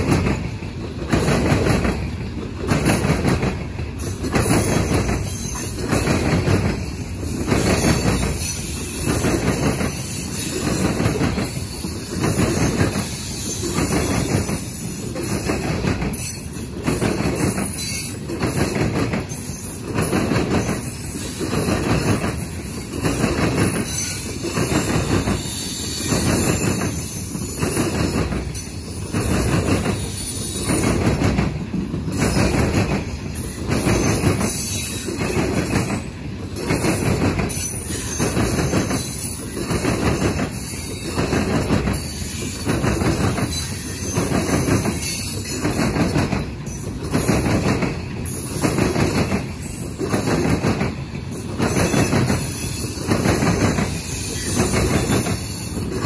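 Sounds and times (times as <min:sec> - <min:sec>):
steel wheels clattering over rail joints: 0:00.0 - 0:56.0.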